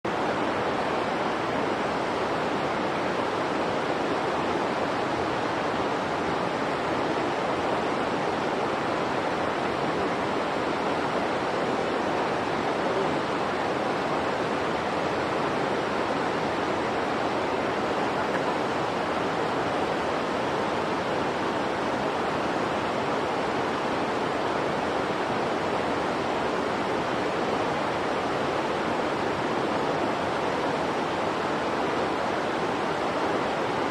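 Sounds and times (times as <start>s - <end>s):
steady rushing noise: 0.1s - 33.9s.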